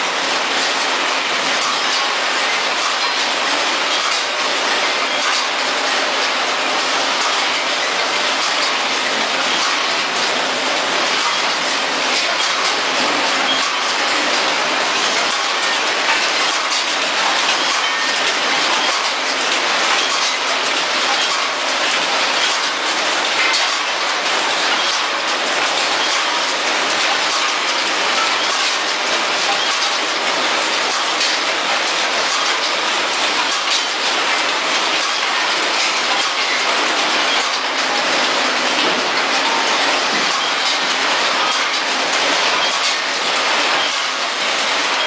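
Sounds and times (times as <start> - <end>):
packaging machine clattering: 0.0 - 45.0.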